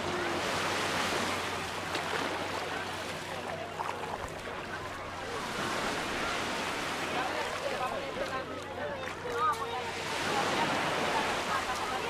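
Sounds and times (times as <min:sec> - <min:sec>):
faint chatter: 0:00.0 - 0:12.0.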